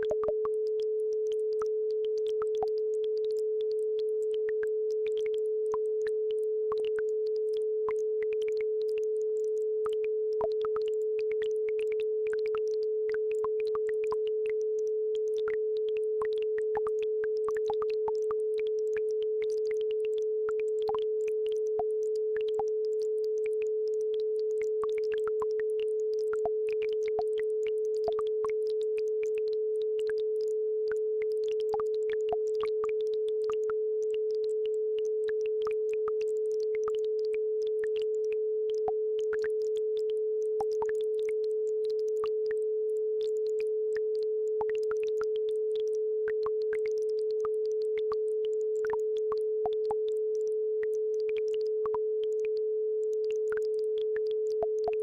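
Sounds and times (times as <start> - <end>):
steady sine tone: 0.0 - 55.0.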